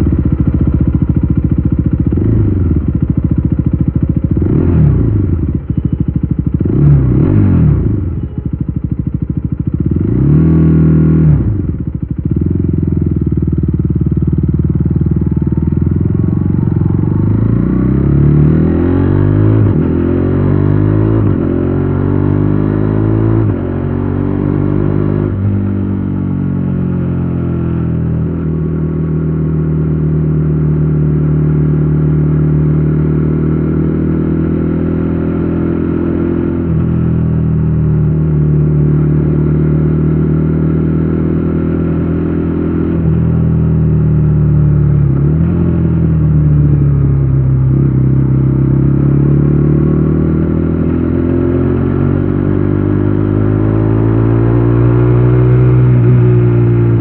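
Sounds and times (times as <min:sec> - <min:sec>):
motorcycle revving and accelerating: 0:00.0 - 0:57.0.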